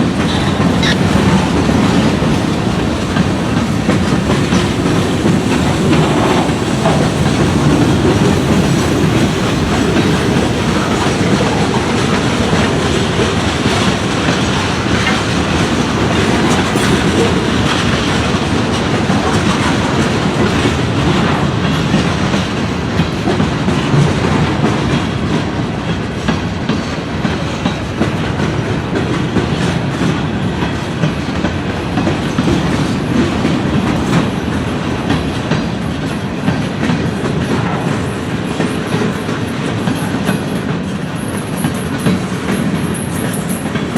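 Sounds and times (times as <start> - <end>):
train wheels clacking on rails: 0.0 - 43.9.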